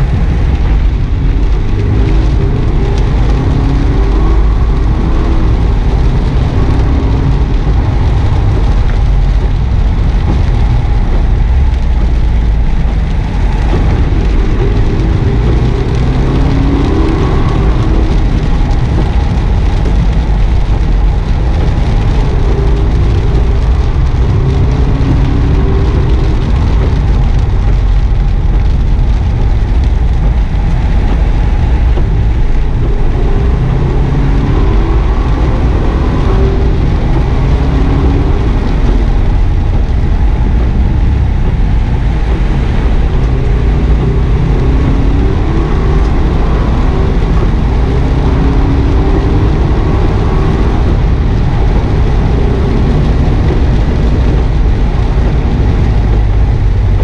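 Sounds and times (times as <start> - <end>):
car engine under load: 0.0 - 57.0
tyre noise and spray on wet road: 0.0 - 57.0.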